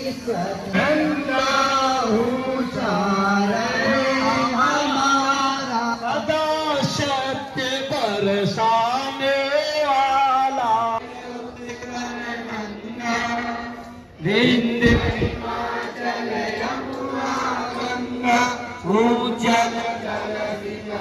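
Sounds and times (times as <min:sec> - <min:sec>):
voices singing a chant: 0:00.0 - 0:07.6, 0:09.8 - 0:21.0.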